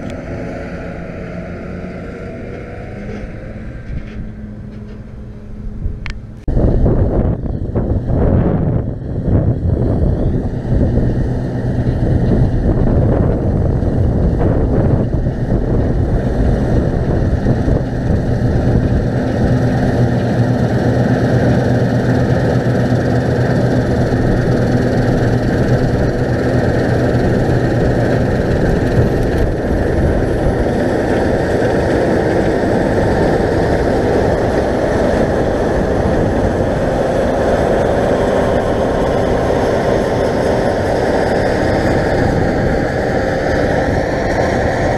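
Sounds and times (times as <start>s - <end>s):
combine harvester engine drone: 0.0s - 44.9s.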